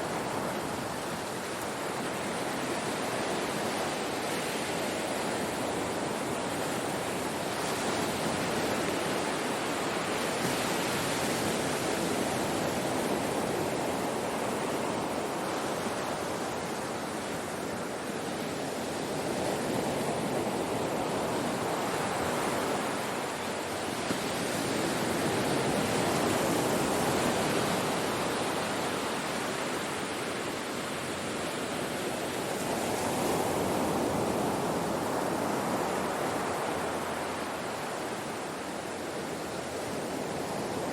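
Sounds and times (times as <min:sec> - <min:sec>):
ocean surf breaking on shore: 0:00.0 - 0:40.9.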